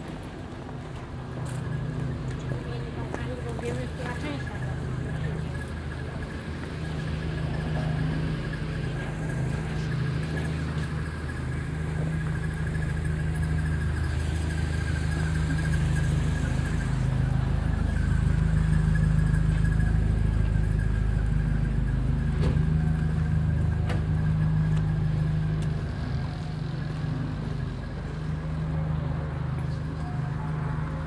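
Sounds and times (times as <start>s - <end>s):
street ambience: 0.0s - 31.0s
thin steady whine: 0.0s - 31.0s
vehicle engine running: 0.0s - 31.0s.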